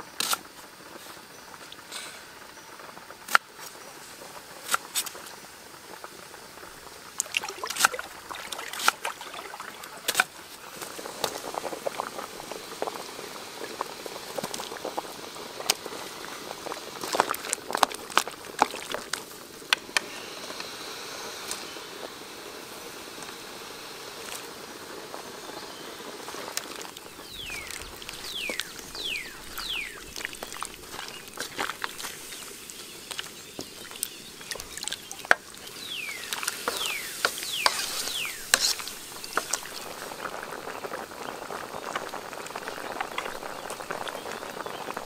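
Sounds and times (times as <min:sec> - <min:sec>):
soup boiling with pops: 0:00.1 - 0:45.0.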